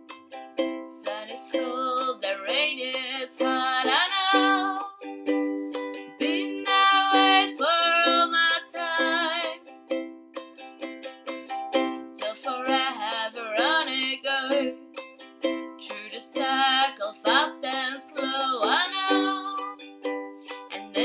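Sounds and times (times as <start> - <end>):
ukulele strumming chords: 0.0 - 21.0
person singing: 0.8 - 9.7, 12.2 - 19.9, 20.5 - 21.0.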